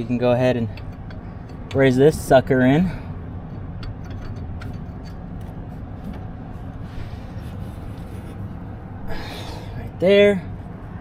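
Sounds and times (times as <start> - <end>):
low machinery rumble: 0.0 - 11.0.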